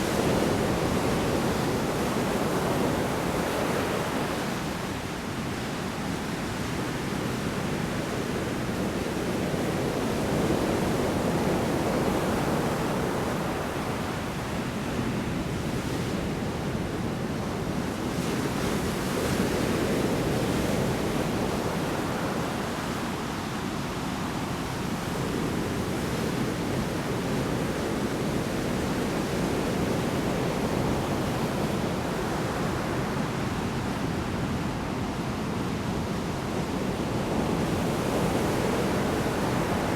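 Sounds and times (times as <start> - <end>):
big waves breaking on shore: 0.0 - 39.9.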